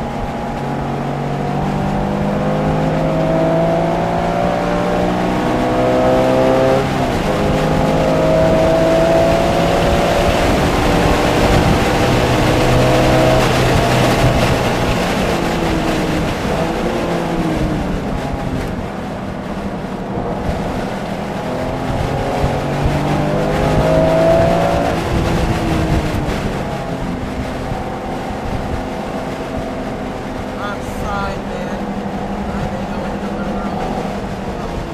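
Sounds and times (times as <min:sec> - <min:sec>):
race car engine accelerating: 0:00.0 - 0:34.9.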